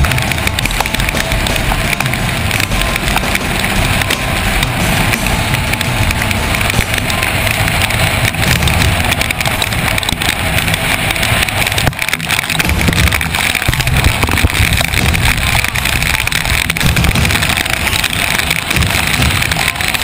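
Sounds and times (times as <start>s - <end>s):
motorboat engine running: 0.0s - 20.0s
water rushing: 0.0s - 20.0s
wind on microphone: 0.0s - 20.0s.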